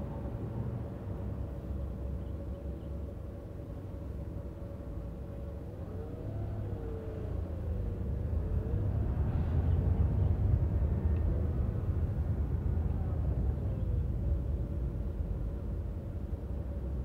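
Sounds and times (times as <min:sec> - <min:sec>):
engine and road rumble in car: 0:00.0 - 0:17.0
faint engine hum: 0:00.0 - 0:17.0.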